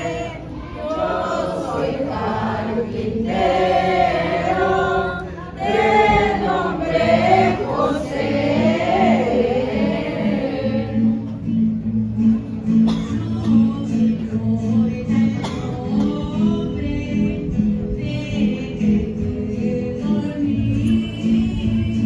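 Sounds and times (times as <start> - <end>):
group of people singing: 0.0 - 11.3, 12.9 - 22.0.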